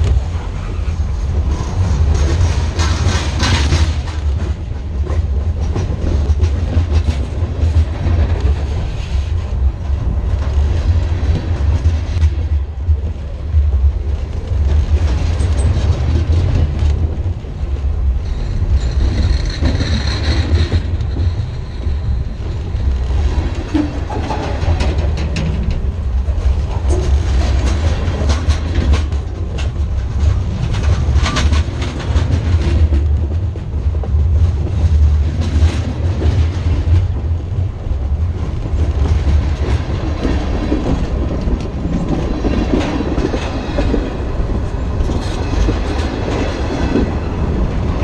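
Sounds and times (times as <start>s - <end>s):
freight cars rumbling overhead: 0.0s - 48.0s
wheels clacking on rail: 0.0s - 48.0s.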